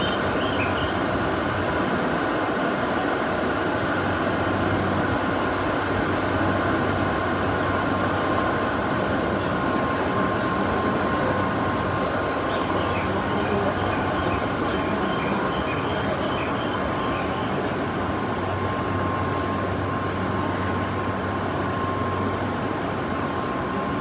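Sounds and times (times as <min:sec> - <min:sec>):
faint steady whine: 0:00.0 - 0:24.0
train rumble: 0:00.0 - 0:24.0.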